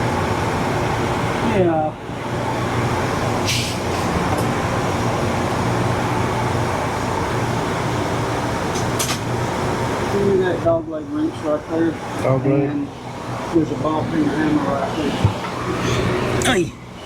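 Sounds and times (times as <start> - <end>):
steady drone with low hum: 0.0 - 17.0.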